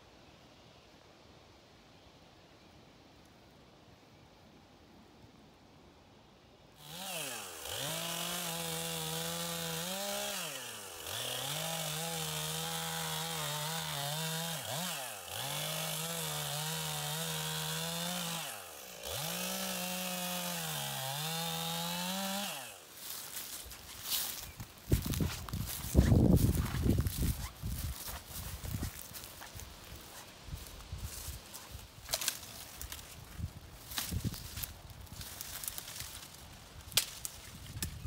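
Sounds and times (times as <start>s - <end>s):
chainsaw cutting log: 6.8s - 38.0s.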